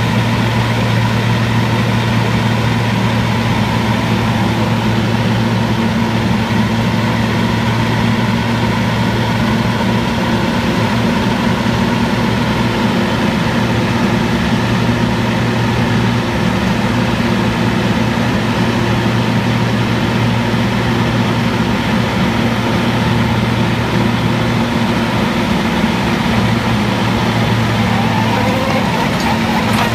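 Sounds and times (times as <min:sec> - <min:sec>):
diesel engine droning: 0:00.0 - 0:29.9.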